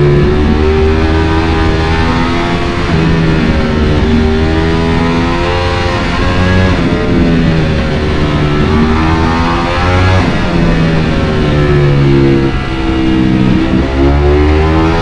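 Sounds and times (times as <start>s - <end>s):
motorcycle engine running: 0.0s - 15.0s
background music: 0.8s - 15.0s.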